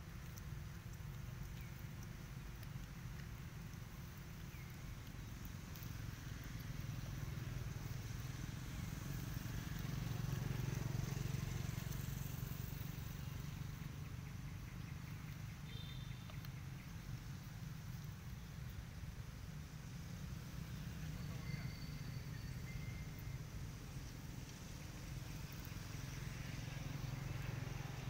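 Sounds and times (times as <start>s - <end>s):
low steady rumble with hiss: 0.0s - 28.0s.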